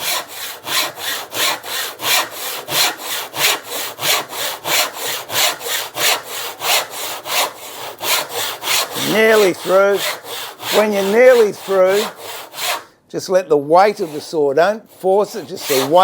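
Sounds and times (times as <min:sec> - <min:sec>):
hand saw cutting timber: 0:00.0 - 0:12.9, 0:13.8 - 0:16.0.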